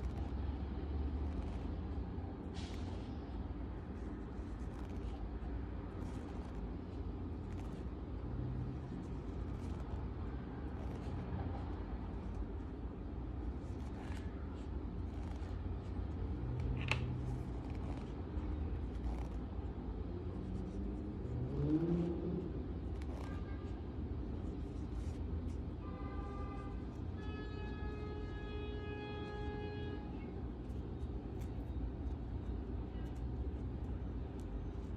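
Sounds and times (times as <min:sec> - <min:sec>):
low background rumble: 0:00.0 - 0:34.9.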